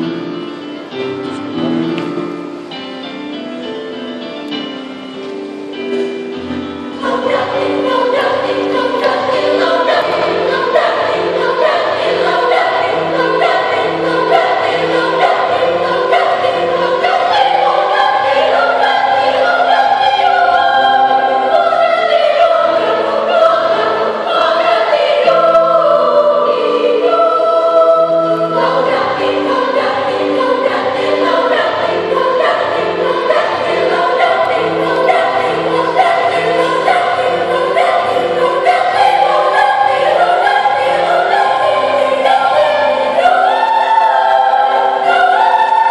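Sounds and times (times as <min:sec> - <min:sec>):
children's choir singing a hymn: 0:00.0 - 0:45.9
keyboard accompaniment: 0:00.0 - 0:45.9.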